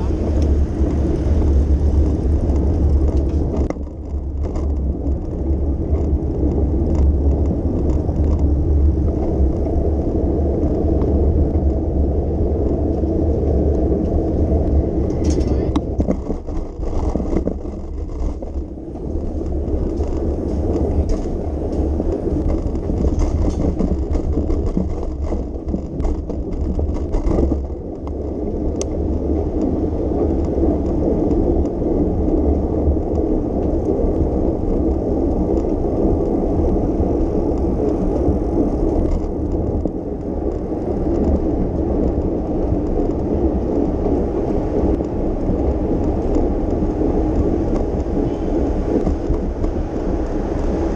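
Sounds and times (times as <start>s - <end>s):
bicycle clicks and rattles: 0.0s - 50.9s
surrounding traffic: 0.0s - 50.9s
wind and road noise: 0.0s - 50.9s.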